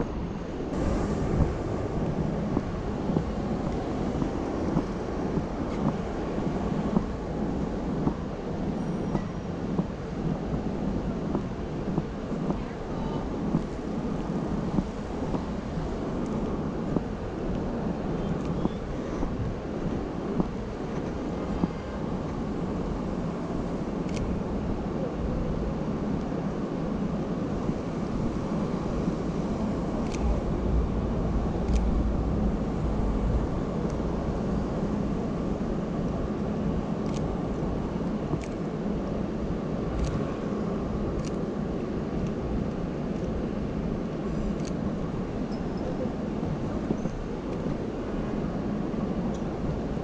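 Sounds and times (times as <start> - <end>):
traffic rumble: 0.0 - 50.0.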